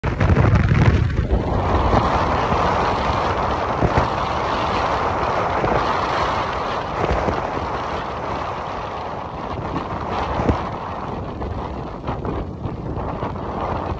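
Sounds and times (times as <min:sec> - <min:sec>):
road noise: 0:00.0 - 0:13.9
wind rushing over microphone: 0:00.0 - 0:13.9.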